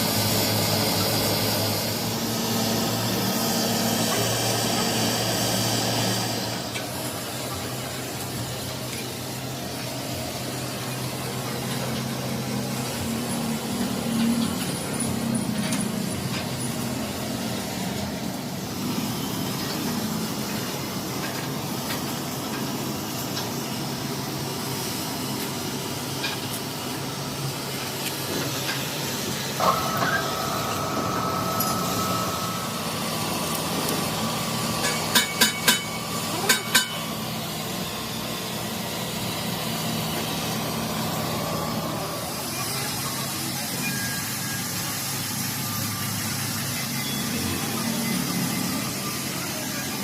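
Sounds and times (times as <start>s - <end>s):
high steady whine: 0.0s - 50.0s
machinery humming: 0.0s - 50.0s.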